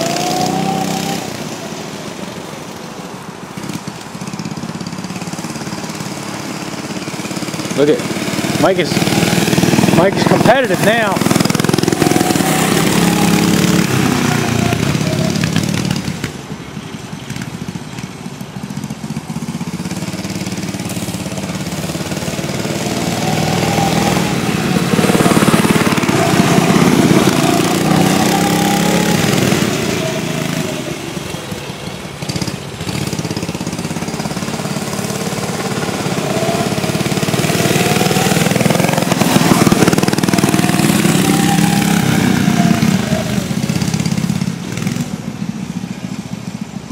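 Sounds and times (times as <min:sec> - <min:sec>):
mini bike engines revving: 0:00.0 - 0:46.9.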